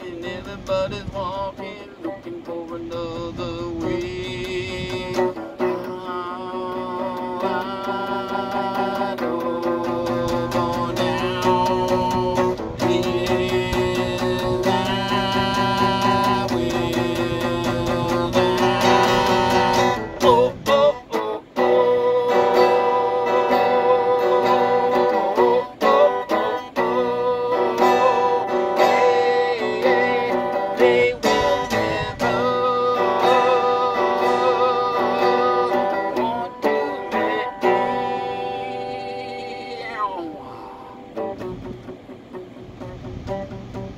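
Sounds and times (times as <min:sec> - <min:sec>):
man singing: 0:00.0 - 0:41.7
acoustic guitar strumming: 0:00.0 - 0:43.9.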